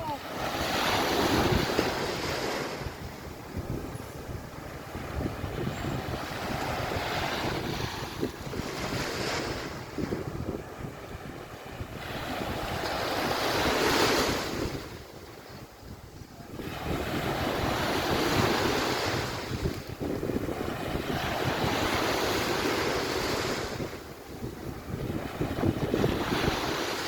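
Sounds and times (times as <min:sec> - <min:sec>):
sea waves washing onto beach: 0:00.0 - 0:27.0
wind buffeting microphone: 0:00.0 - 0:27.0.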